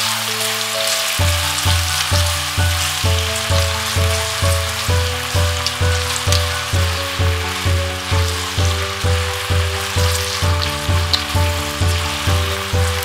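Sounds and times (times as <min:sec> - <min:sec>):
onions sizzling in hot oil: 0:00.0 - 0:13.0
background music with bass beat: 0:00.7 - 0:13.0.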